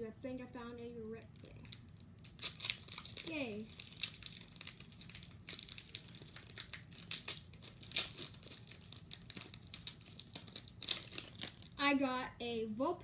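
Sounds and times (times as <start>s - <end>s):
foil wrapper crinkling: 1.4s - 11.8s.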